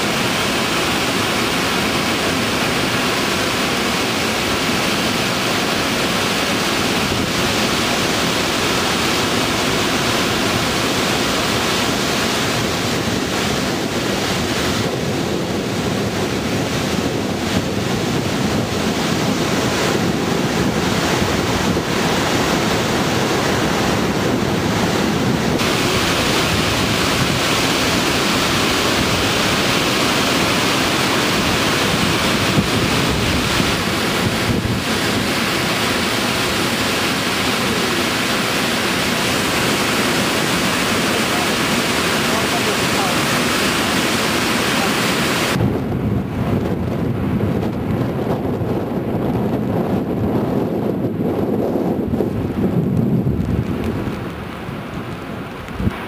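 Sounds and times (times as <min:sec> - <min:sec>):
waterfall rushing: 0:00.0 - 0:45.7, 0:53.6 - 0:56.0
whitewater river: 0:00.0 - 0:45.7, 0:49.9 - 0:56.0
wind buffeting microphone: 0:00.0 - 0:56.0.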